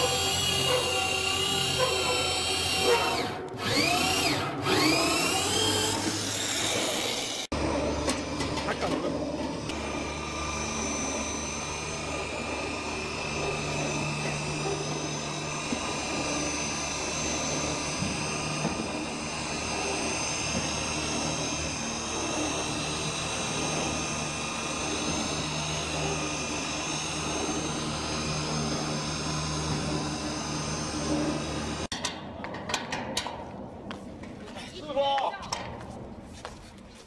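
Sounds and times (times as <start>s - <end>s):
roof seaming machine whining: 0.0s - 31.9s.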